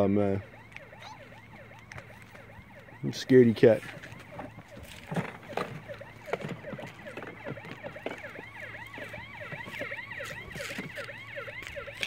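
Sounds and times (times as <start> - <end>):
electronic toy police siren: 0.0 - 12.0.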